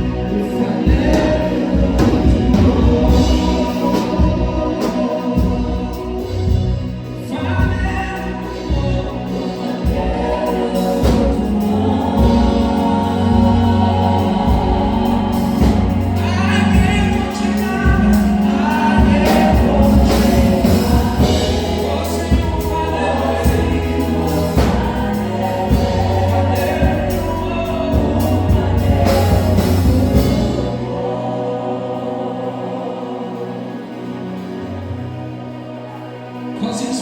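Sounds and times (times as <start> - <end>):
steady bass line: 0.0 - 34.8
band playing gospel music: 0.0 - 37.0
choir singing: 0.0 - 37.0.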